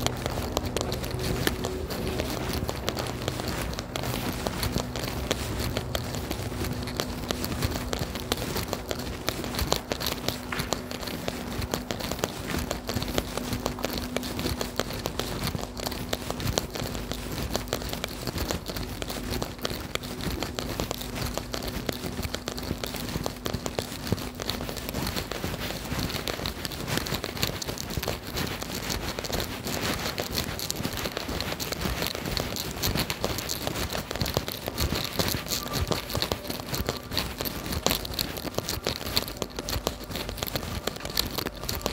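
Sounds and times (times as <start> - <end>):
faint steady hum: 0.0 - 41.9
rain pattering: 0.0 - 41.9.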